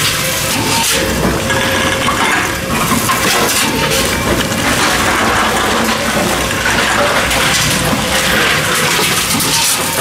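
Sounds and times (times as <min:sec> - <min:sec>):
noisy background: 0:00.0 - 0:10.0
plastic bottles and cans crinkling: 0:01.1 - 0:10.0.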